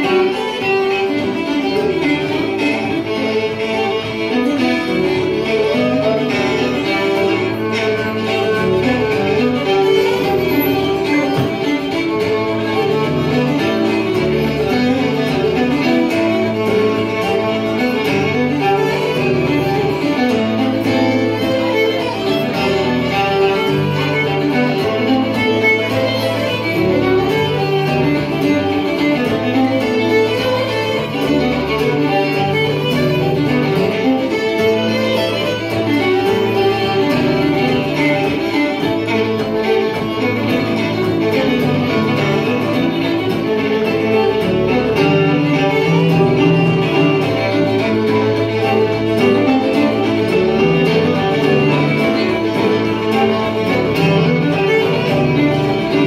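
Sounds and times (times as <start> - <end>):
acoustic guitar: 0.0 - 56.0
fiddles playing: 0.0 - 56.0.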